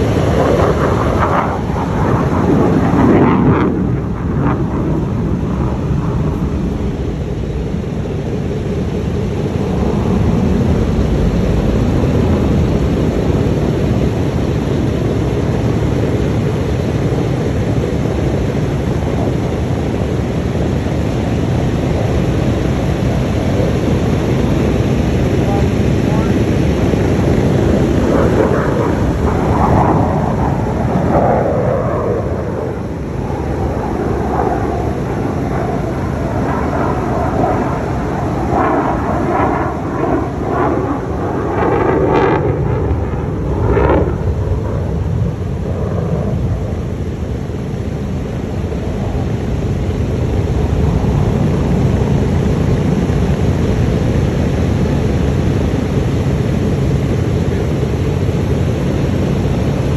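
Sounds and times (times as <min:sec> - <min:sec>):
aircraft passing overhead: 0:00.0 - 0:59.9
propeller engines rumbling: 0:00.0 - 0:59.9.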